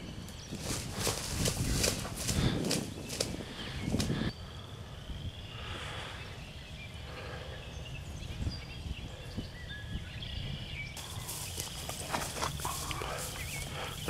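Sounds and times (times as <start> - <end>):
faint bird chirps: 2.4 - 14.0.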